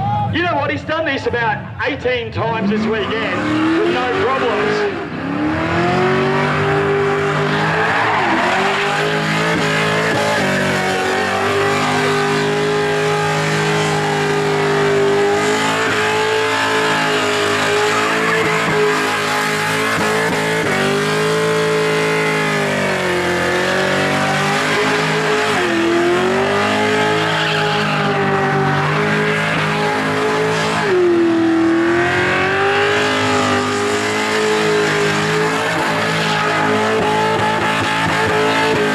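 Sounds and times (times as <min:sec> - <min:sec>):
car engine revving high: 0:02.4 - 0:38.9
tyres screeching: 0:05.8 - 0:38.9.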